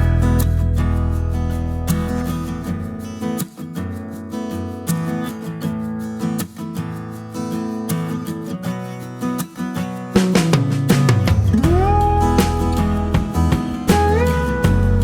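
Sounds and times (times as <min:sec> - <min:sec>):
strummed acoustic guitar music: 0:00.0 - 0:15.0.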